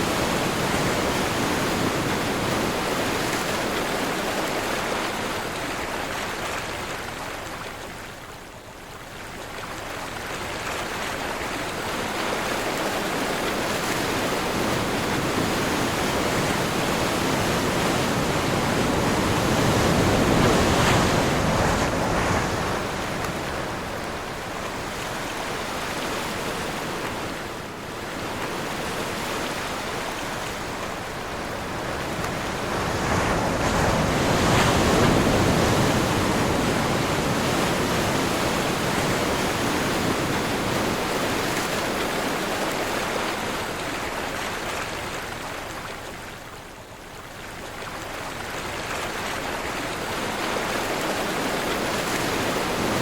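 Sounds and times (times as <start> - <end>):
sea waves breaking: 0.0 - 7.3, 10.0 - 46.7, 47.3 - 53.0.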